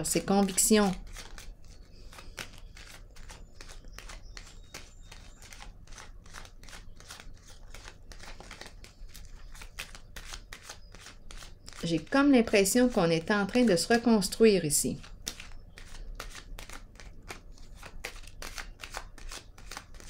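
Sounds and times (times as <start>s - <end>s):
cards being shuffled: 0.1s - 12.1s, 14.9s - 20.0s.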